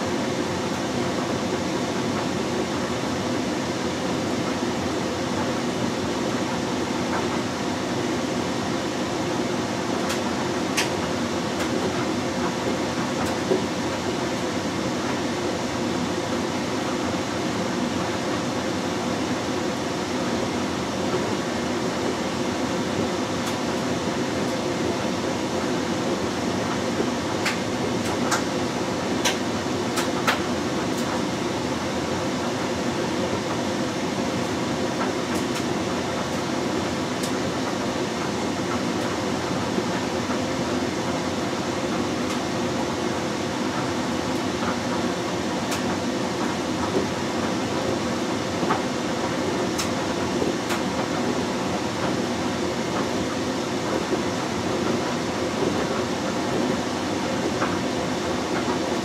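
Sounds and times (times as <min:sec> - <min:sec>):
washing machine churning: 0:00.0 - 0:59.0.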